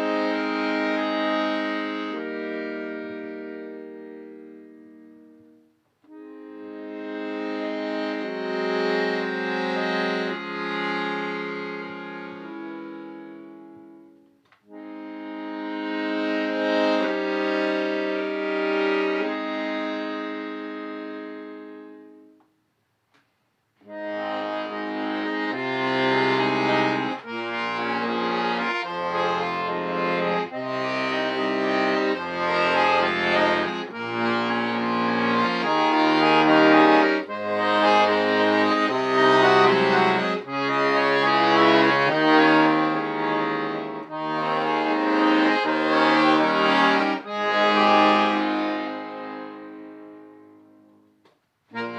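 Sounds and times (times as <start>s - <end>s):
accordion playing chords: 0.0s - 22.5s, 23.8s - 51.9s.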